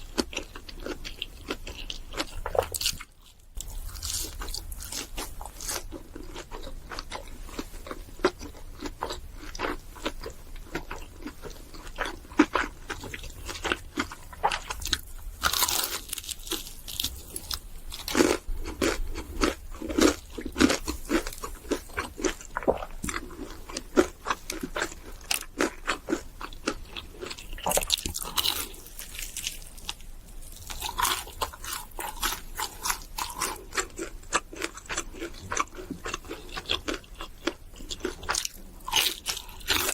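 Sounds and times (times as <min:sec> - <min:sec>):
crunchy chewing of fried food: 0:00.0 - 0:39.9.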